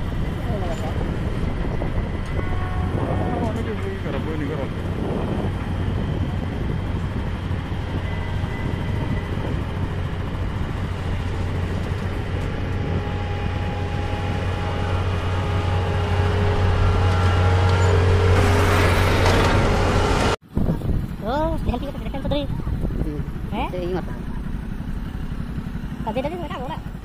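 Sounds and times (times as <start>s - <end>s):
heavy diesel engine rumbling: 0.0s - 27.0s.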